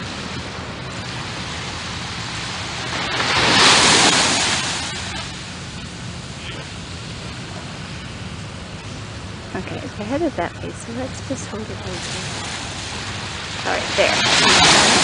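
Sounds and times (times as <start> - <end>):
small waves washing on beach: 0.0 - 15.0
steady low hum: 0.0 - 15.0.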